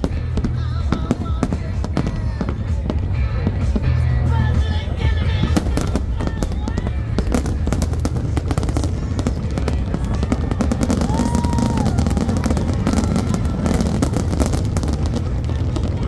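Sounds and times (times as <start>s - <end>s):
fireworks bursting and crackling: 0.0s - 16.0s
low rumble: 0.0s - 16.0s.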